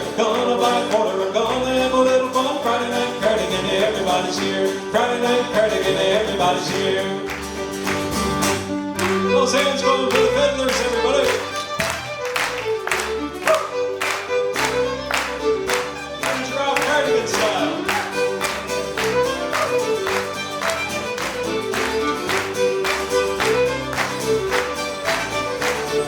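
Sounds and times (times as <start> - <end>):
fiddle: 0.0 - 26.0.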